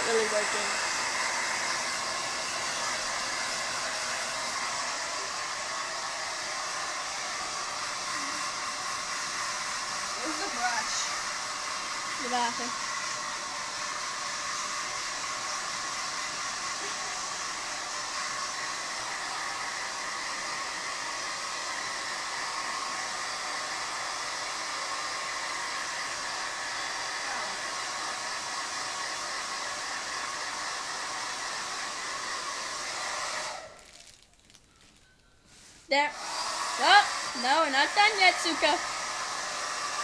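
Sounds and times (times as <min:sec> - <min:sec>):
hair dryer blowing: 0:00.0 - 0:34.0, 0:35.5 - 0:40.0.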